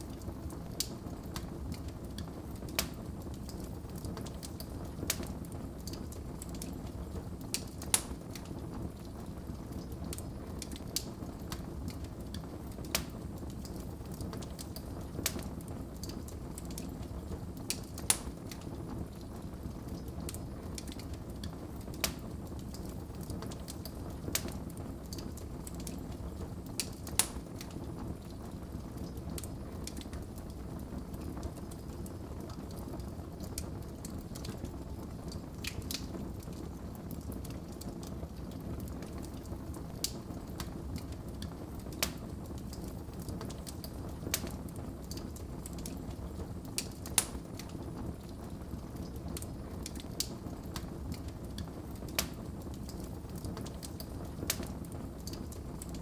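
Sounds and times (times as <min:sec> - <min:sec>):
fire popping: 0:00.0 - 0:56.0
wood fire crackling: 0:00.0 - 0:56.0.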